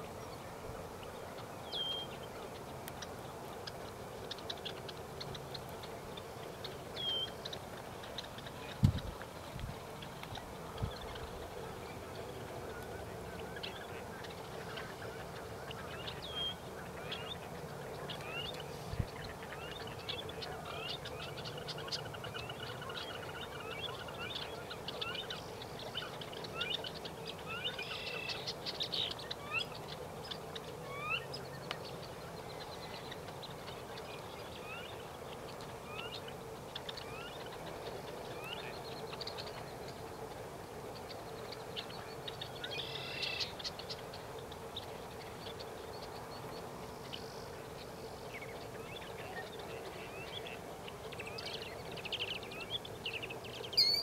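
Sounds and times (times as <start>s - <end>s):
flock of birds calling: 0.0s - 54.0s.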